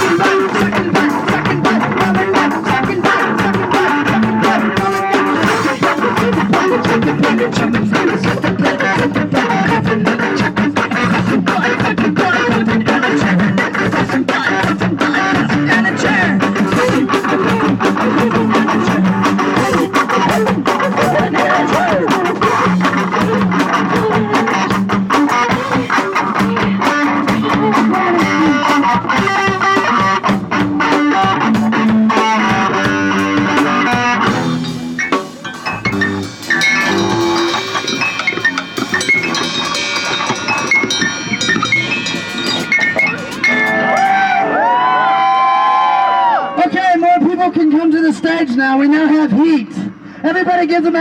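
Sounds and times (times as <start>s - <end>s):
live punk rock band playing: 0.0s - 46.3s.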